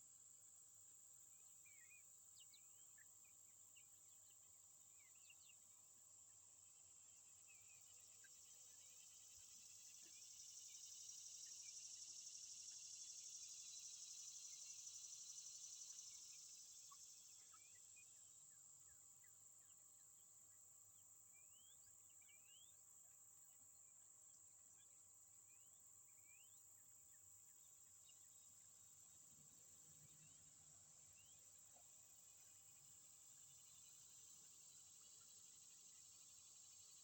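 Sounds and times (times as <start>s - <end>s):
high insect drone: 1.2s - 37.0s.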